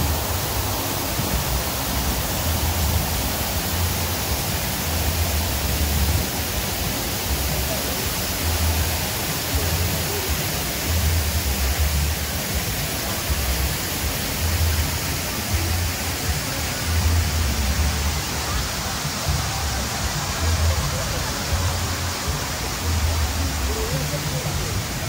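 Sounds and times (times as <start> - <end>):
fountain water jets hissing: 0.0 - 25.0.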